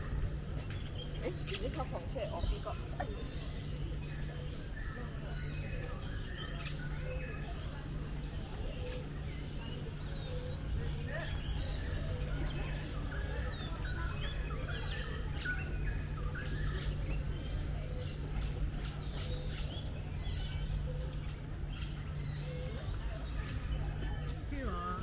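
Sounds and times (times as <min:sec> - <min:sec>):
steady low hum: 0:00.0 - 0:25.0
birds chirping and calling: 0:00.2 - 0:25.0.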